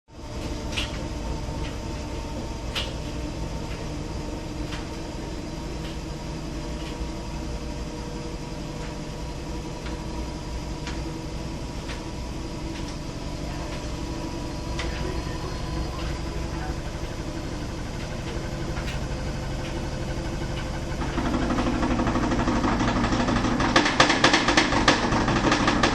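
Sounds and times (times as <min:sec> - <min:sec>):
washing machine spinning hum: 0:00.1 - 0:25.9.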